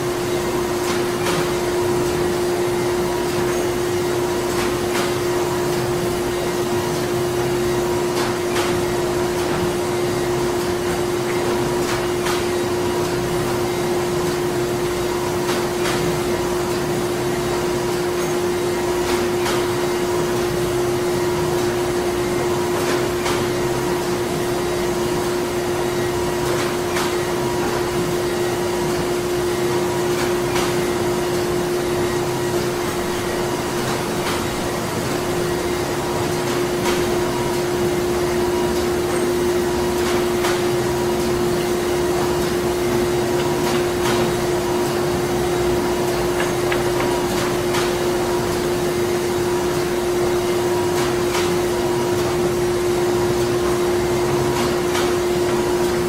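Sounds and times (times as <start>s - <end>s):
machinery hum: 0.0s - 56.0s.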